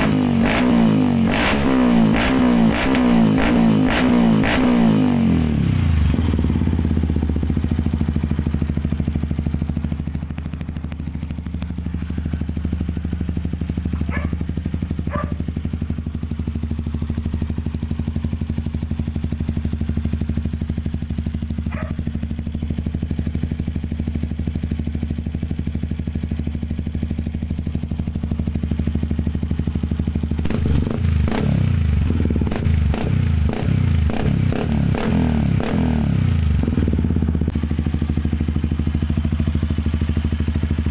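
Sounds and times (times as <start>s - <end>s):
motorcycle engine idling: 2.0s - 40.9s.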